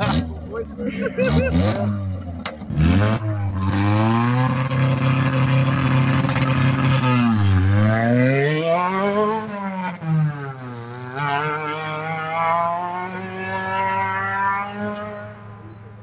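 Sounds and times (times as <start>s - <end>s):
car engine revving: 0.0s - 15.7s.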